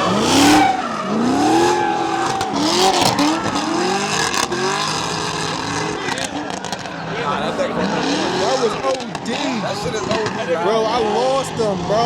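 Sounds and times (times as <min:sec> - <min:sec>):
car engine revving: 0:00.0 - 0:12.0
tires screeching: 0:00.0 - 0:12.0.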